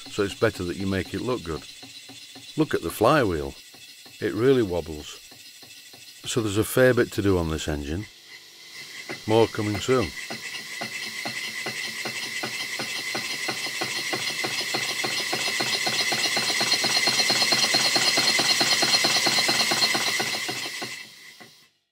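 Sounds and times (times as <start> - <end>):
steam engine knocking: 0.0 - 6.4, 8.9 - 21.6.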